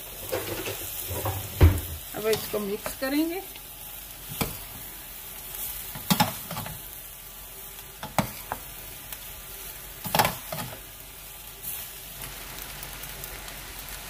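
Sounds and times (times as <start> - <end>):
frying hiss: 0.0 - 14.0.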